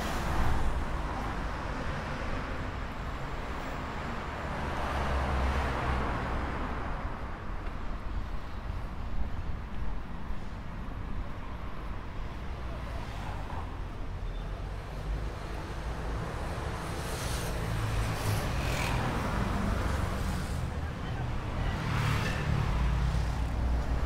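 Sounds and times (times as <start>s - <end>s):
cars rumbling on road: 0.0s - 24.0s.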